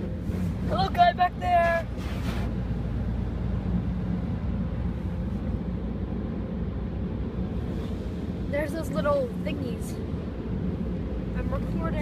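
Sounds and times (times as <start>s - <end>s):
car wash rumble and hiss: 0.0s - 12.0s.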